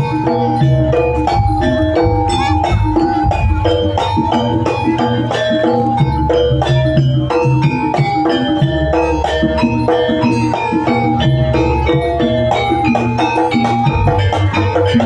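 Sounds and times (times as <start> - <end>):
steady drum beat: 0.0 - 15.0
tuned metal percussion runs: 0.0 - 15.0.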